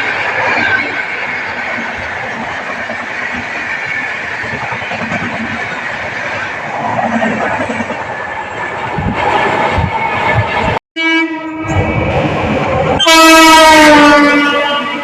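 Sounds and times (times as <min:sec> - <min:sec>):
train wheels on track: 0:00.0 - 0:10.8, 0:11.5 - 0:15.0.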